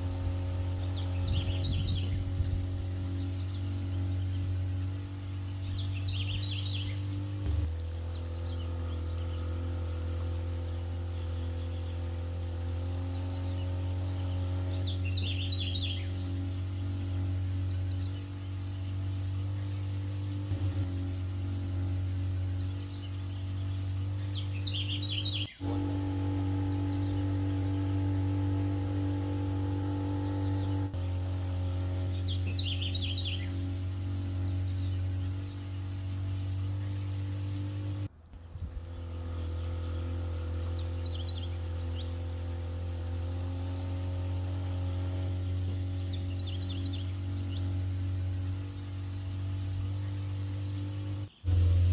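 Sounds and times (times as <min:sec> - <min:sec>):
birds chirping: 0:00.0 - 0:51.9
boat motor humming: 0:00.0 - 0:51.9.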